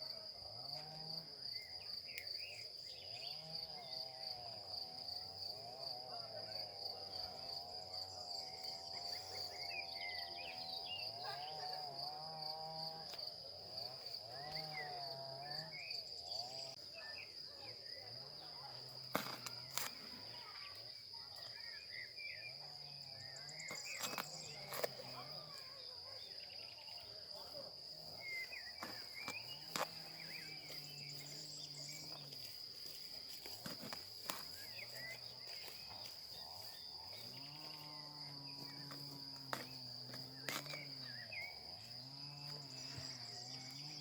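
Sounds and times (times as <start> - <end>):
crickets chirring: 0.0 - 44.0
insects buzzing: 0.0 - 44.0.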